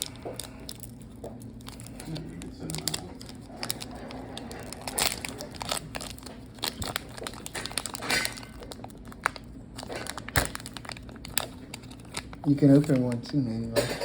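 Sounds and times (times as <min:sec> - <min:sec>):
plastic wrapper crinkling and tearing: 0:00.0 - 0:13.7.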